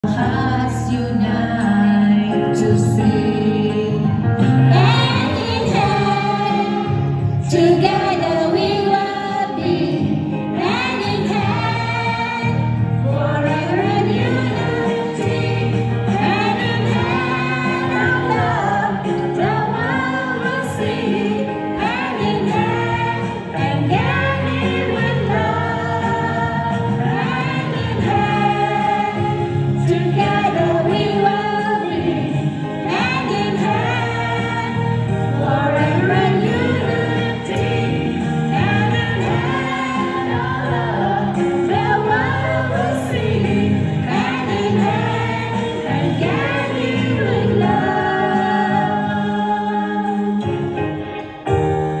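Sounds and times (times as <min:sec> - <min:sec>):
people singing: 0:00.0 - 0:51.4.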